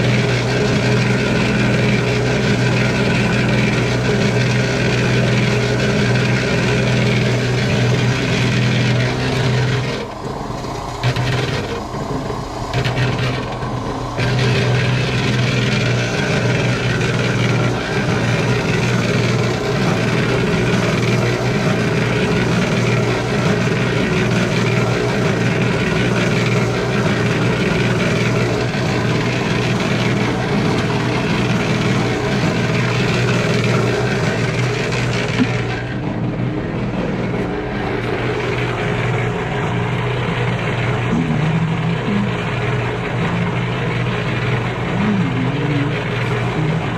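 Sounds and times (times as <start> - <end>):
concrete mixer running: 0.0 - 46.9.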